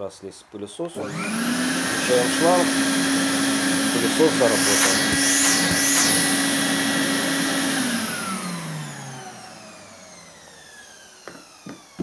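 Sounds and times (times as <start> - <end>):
shop vacuum motor spinning down: 0.9 - 12.0.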